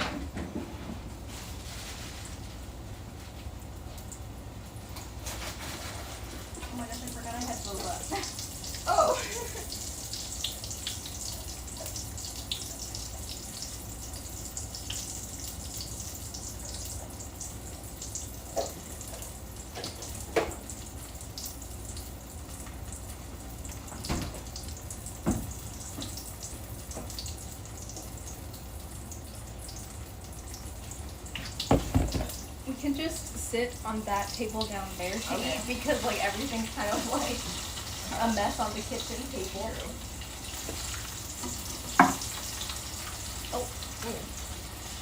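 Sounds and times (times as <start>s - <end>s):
food deep-frying in oil: 1.2s - 45.0s.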